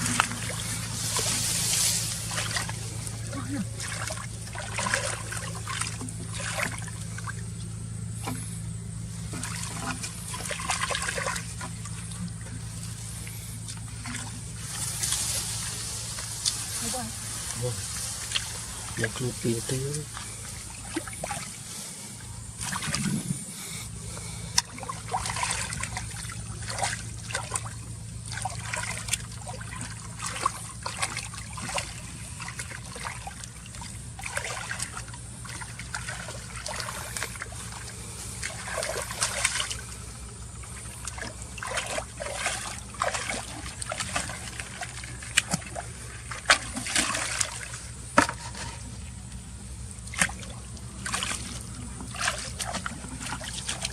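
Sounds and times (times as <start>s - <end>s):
shallow water splashing: 0.0s - 53.9s.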